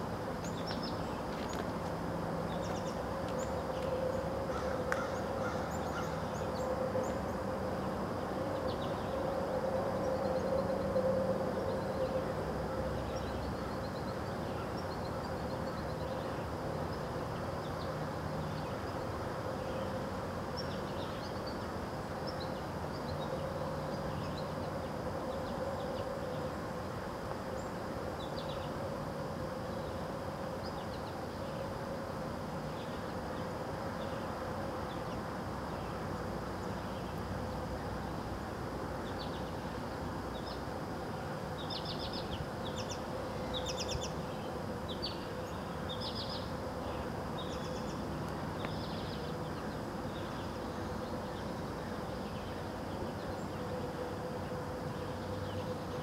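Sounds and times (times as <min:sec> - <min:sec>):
buzzing hum with droning tone: 0:00.0 - 0:56.0.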